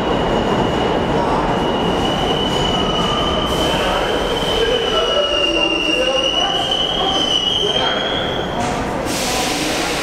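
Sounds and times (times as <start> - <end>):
train brakes squealing: 0.0 - 10.0
train rumbling on rails: 0.0 - 10.0.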